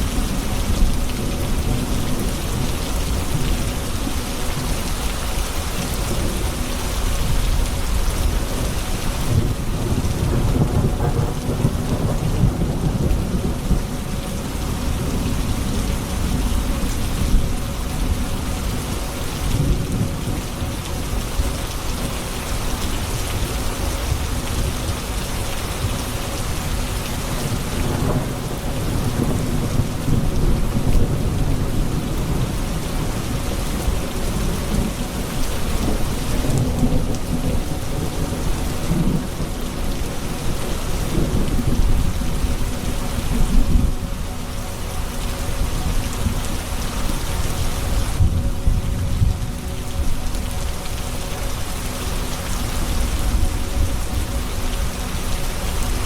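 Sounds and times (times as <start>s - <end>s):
heavy rain on hard surfaces: 0.0s - 56.0s
low rolling thunder: 5.8s - 51.1s.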